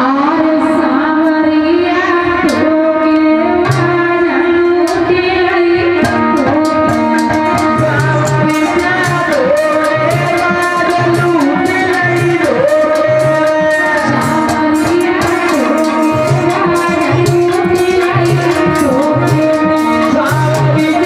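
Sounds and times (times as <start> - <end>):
harmonium melody: 0.0 - 21.0
percussion strokes: 2.2 - 21.0.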